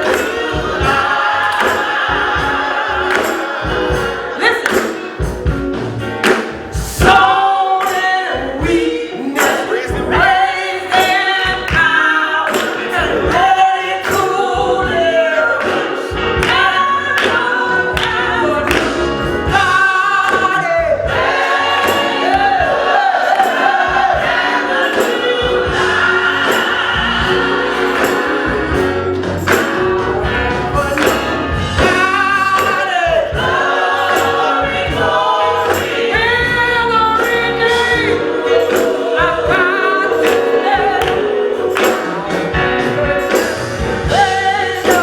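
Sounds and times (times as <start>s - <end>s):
band with steady beat: 0.0s - 45.0s
gospel choir singing: 0.0s - 45.0s.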